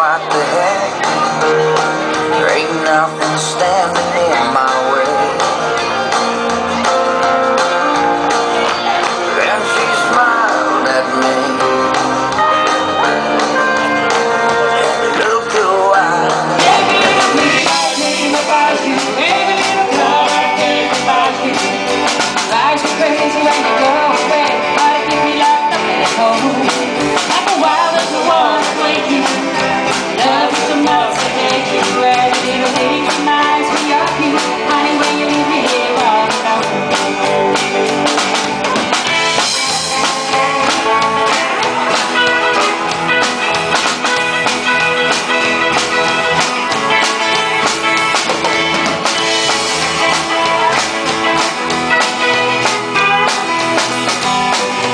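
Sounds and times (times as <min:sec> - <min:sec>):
drum kit: 0:00.0 - 0:54.9
electric guitars: 0:00.0 - 0:54.9.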